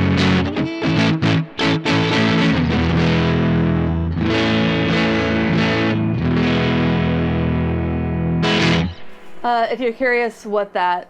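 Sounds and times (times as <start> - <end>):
distorted electric guitar chords: 0.0 - 9.4.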